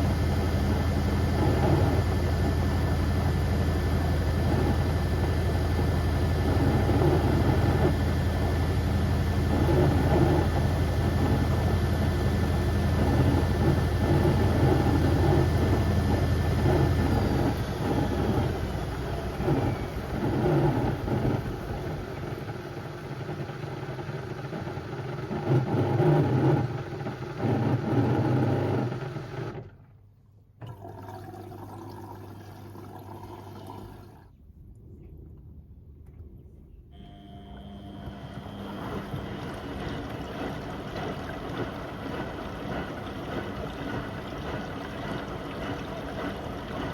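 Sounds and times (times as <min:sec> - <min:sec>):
washing machine motor whine: 0:00.0 - 0:30.0, 0:30.6 - 0:34.3, 0:36.9 - 0:46.9.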